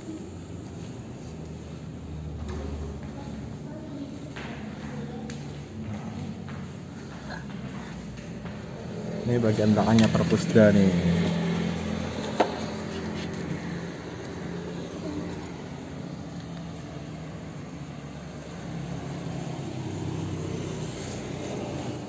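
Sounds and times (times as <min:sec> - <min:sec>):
distant traffic hum: 0:00.0 - 0:22.0.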